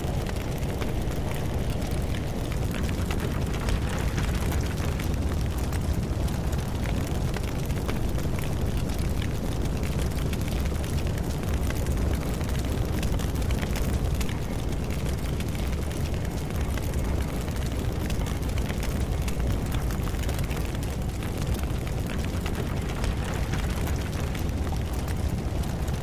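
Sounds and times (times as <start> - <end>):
fire rumbling and crackling: 0.0 - 26.0.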